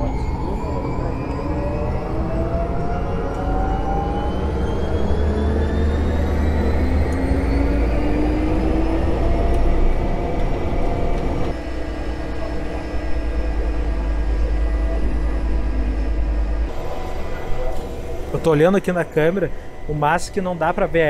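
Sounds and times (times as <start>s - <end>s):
propeller airplane engine whine: 0.0s - 21.0s.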